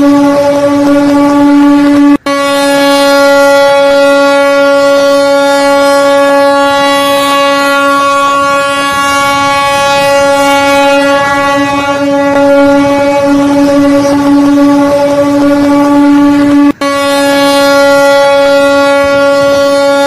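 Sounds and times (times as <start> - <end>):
ship's horn blast: 0.0 - 20.0.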